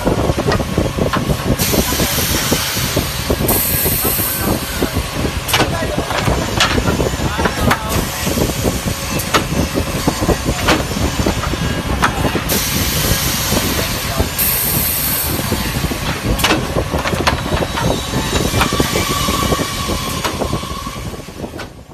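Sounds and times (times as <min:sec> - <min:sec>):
drilling machine clattering: 0:00.0 - 0:21.9.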